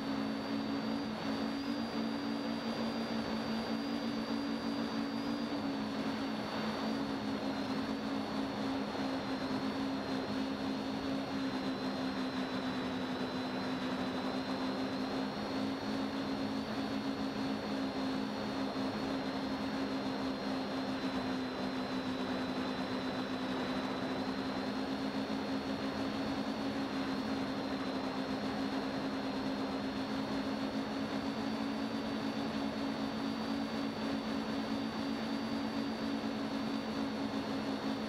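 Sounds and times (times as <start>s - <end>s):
drone motors humming and whining: 0.0s - 38.0s.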